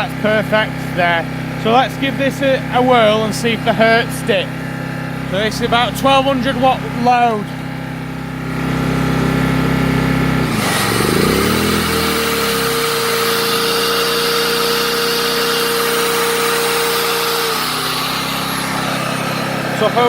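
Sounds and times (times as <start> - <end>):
electric router whining: 0.0 - 20.0
generator engine running: 0.0 - 20.0.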